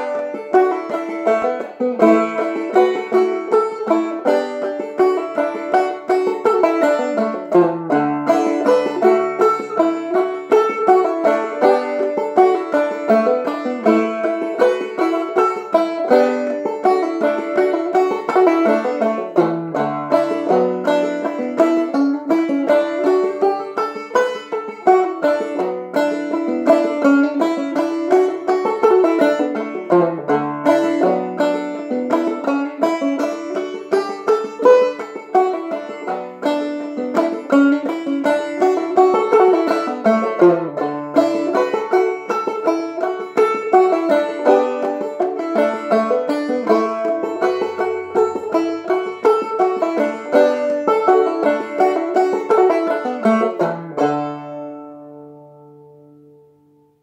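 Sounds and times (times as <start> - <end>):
banjo plucked tune: 0.0 - 57.0.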